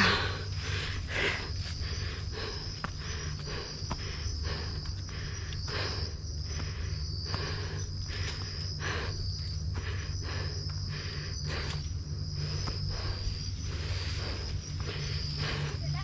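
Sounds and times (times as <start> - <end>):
crickets trilling: 0.0 - 16.0
footsteps on dirt trail: 0.0 - 16.0.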